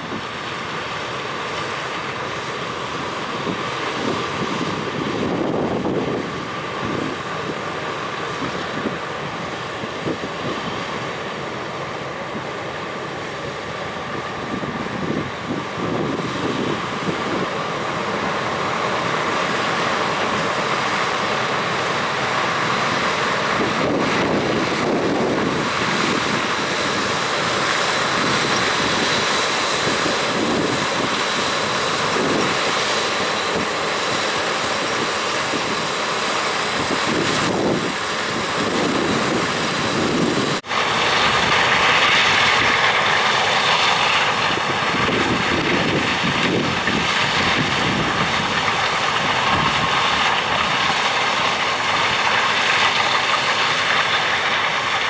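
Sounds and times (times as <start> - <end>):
combine harvester running: 0.0 - 55.0
tractor pulling grain cart: 0.0 - 55.0.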